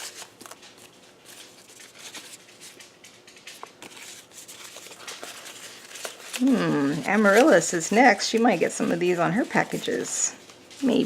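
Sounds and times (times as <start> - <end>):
paper rustling and tapping: 0.0 - 11.0.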